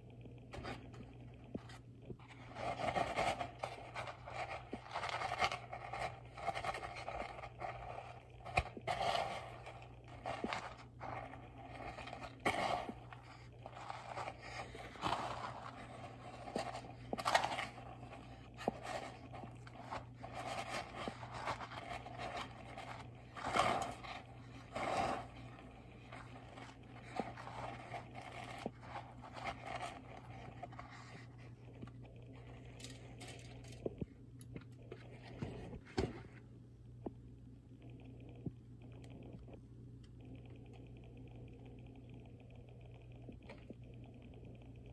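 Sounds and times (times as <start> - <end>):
steady low hum: 0.0 - 44.9
crunching and scraping in breadcrumbs: 0.4 - 36.4.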